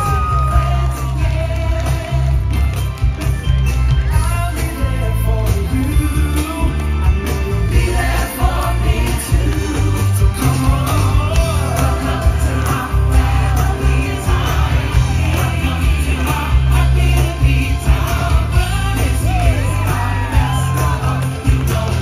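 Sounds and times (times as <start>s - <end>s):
heavy bass beat: 0.0s - 22.0s
upbeat song with singing: 0.0s - 22.0s.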